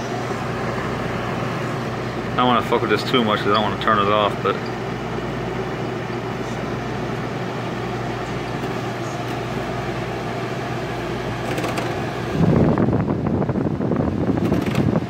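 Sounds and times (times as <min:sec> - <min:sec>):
air conditioner hum and fan rush: 0:00.0 - 0:15.0.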